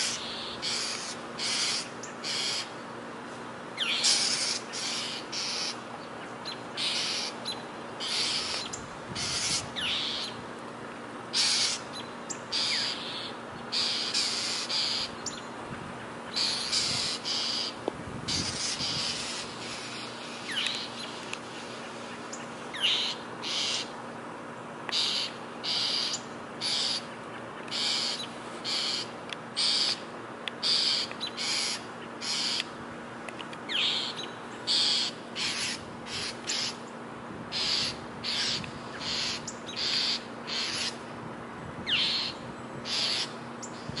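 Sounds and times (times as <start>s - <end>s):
small birds alarm calls: 0.0s - 2.9s, 3.8s - 10.4s, 11.3s - 24.0s, 24.9s - 32.8s, 33.7s - 41.0s, 41.8s - 44.0s.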